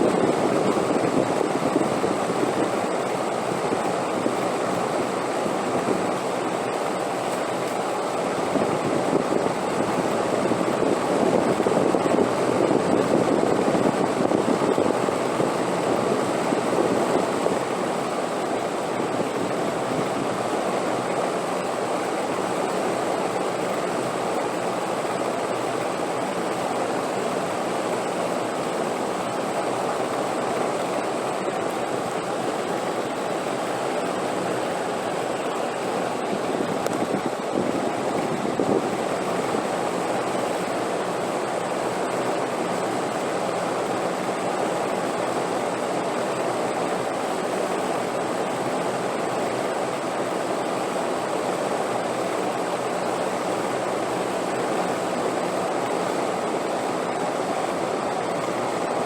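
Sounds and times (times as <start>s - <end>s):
rushing wind: 0.0s - 59.0s.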